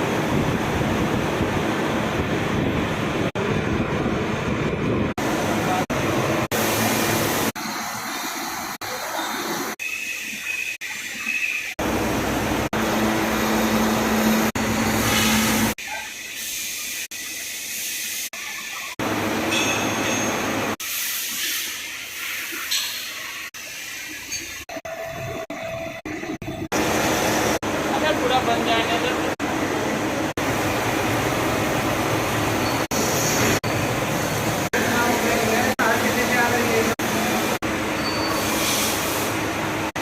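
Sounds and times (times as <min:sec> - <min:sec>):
lathe machining with coolant hiss: 0:05.2 - 0:40.0.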